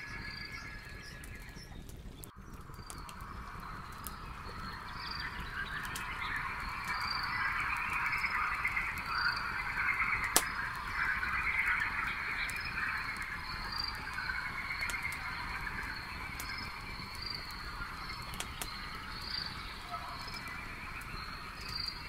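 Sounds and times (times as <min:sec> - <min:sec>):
campfire crackling and popping: 0:00.0 - 0:22.0
frogs calling: 0:02.6 - 0:22.0.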